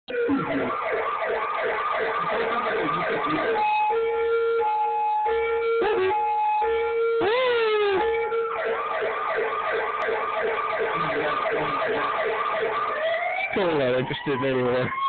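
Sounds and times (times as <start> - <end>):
siren yelping wail: 0.1 - 15.0
two-tone siren: 0.1 - 15.0.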